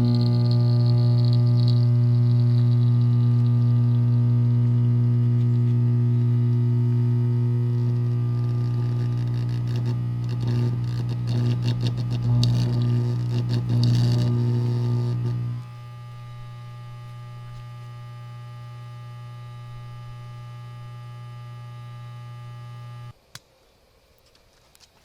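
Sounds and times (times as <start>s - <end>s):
electric arc buzzing and crackling: 0.0s - 23.2s
welder electrical hum: 0.0s - 23.5s.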